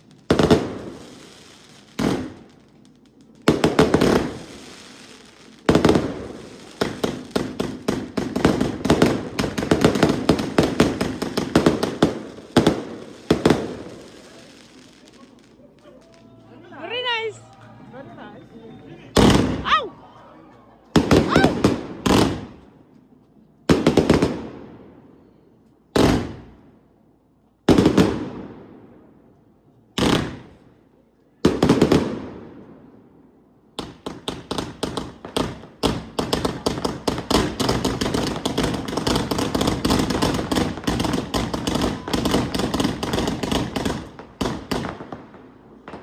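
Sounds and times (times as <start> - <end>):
fireworks bangs: 0.0 - 17.4, 19.2 - 20.0, 20.9 - 22.8, 23.6 - 25.2, 25.9 - 27.0, 27.7 - 29.1, 30.0 - 30.8, 31.4 - 33.0, 33.8 - 46.0
rapid crackling firework volley: 0.0 - 17.6, 19.1 - 20.1, 20.8 - 22.8, 23.7 - 24.8, 25.9 - 26.7, 27.7 - 28.6, 30.0 - 30.7, 31.4 - 32.7, 33.8 - 46.0.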